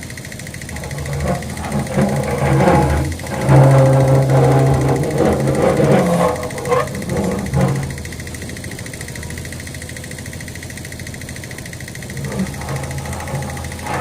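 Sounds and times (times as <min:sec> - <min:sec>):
backhoe diesel engine running: 0:00.0 - 0:14.0.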